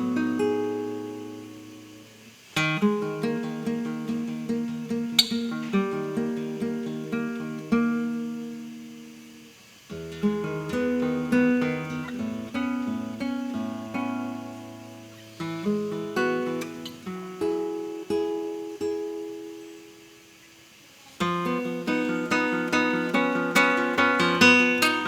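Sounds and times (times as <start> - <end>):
solo classical guitar: 0.0 - 25.0.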